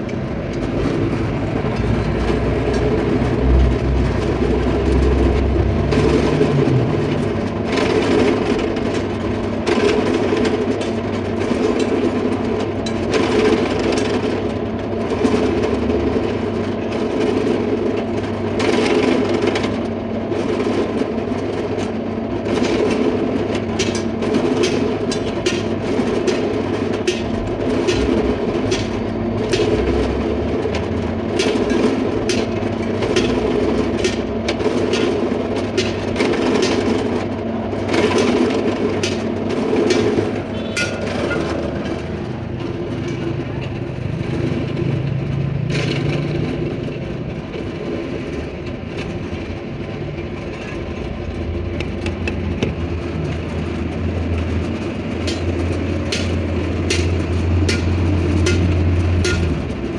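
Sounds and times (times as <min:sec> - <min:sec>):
engine running steadily: 0:00.0 - 0:59.9
machine hum: 0:00.0 - 0:59.9.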